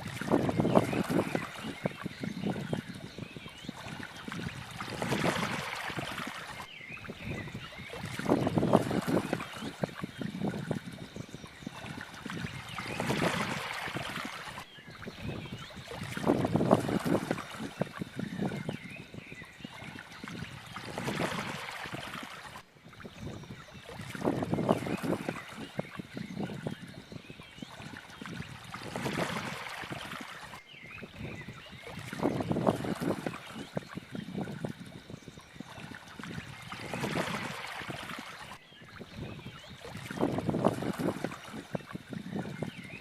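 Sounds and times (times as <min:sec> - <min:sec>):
water splashing and trickling: 0:00.0 - 0:43.0.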